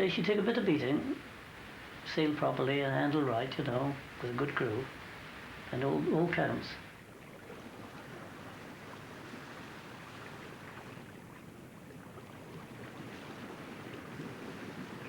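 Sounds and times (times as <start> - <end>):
sea water washing: 0.0 - 15.0.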